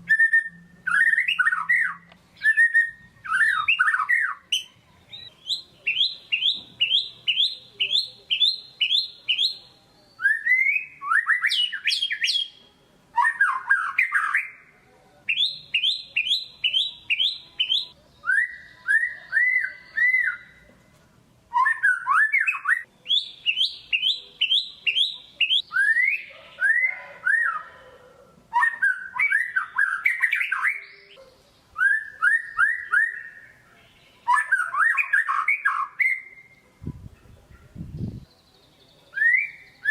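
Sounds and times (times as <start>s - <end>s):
songbird singing rapid notes: 0.0s - 12.6s, 15.3s - 20.7s, 21.5s - 27.6s, 28.5s - 39.9s.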